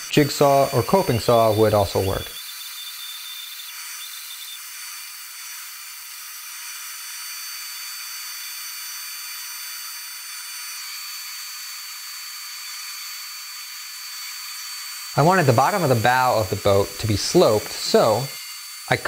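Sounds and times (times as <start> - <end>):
bandsaw cutting wood: 0.0 - 19.0.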